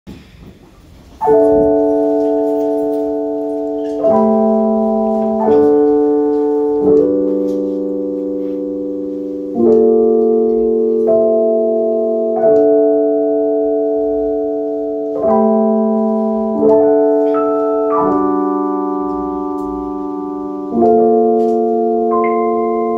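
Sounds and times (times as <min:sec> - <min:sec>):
piano chords ringing: 0:01.0 - 0:22.9.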